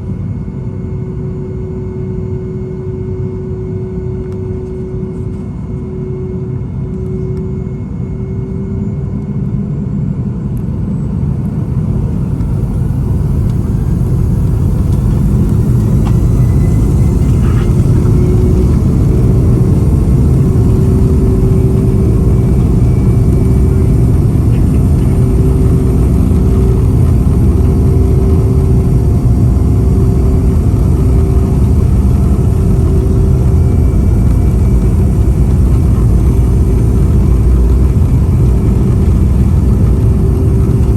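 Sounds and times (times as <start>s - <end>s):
jet engines at takeoff power: 0.0s - 40.9s.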